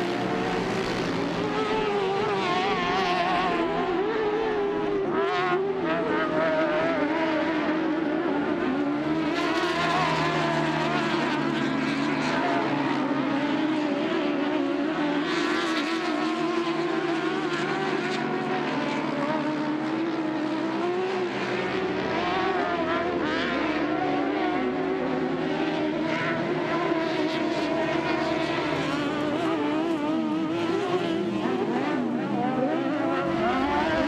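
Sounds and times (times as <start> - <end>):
race engines running hard: 0.0 - 34.0.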